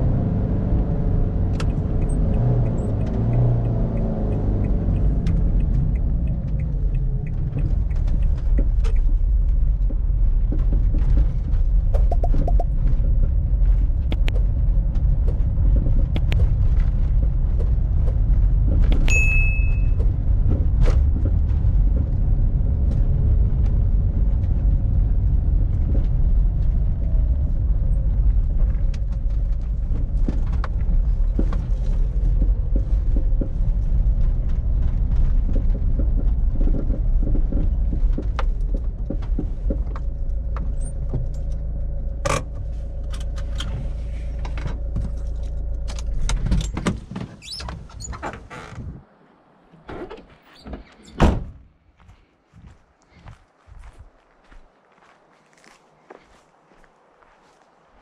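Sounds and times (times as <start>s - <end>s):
diesel engine and tyres rumbling: 0.0s - 58.0s.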